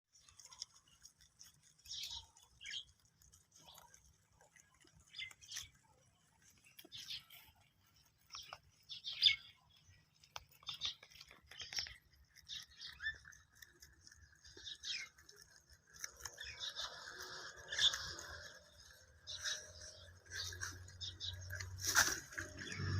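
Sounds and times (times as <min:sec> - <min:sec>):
rabbits nibbling and rustling grass: 0:00.1 - 0:22.9.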